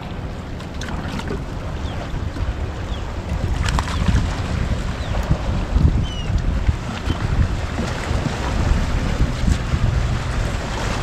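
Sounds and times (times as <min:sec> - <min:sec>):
water around boat: 0:00.0 - 0:11.0
wind on microphone: 0:00.0 - 0:11.0.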